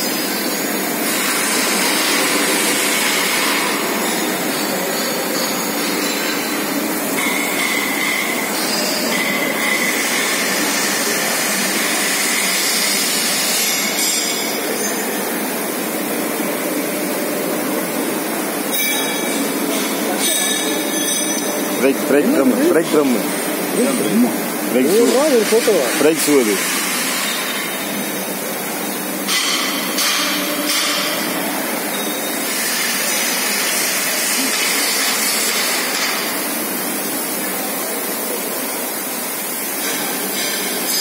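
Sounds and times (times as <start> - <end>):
industrial factory din: 0.0 - 41.0.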